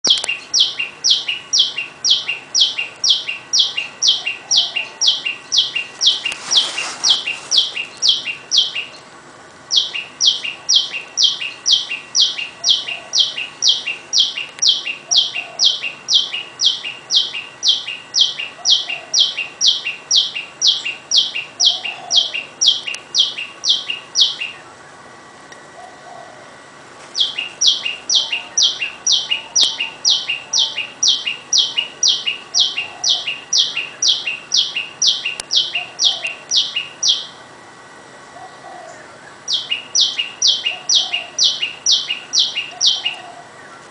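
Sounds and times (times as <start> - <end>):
bird calling sharp notes: 0.0 - 9.1, 9.7 - 24.9, 27.2 - 37.4, 38.3 - 43.9.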